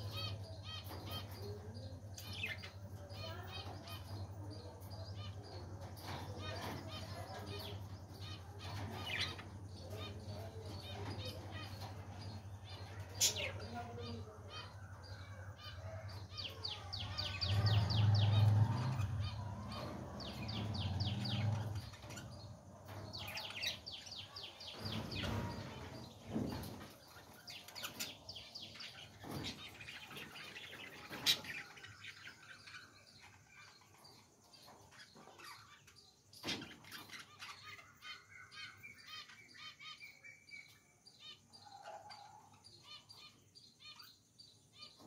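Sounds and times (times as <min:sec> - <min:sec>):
budgerigars chattering and warbling: 0:00.0 - 0:45.0.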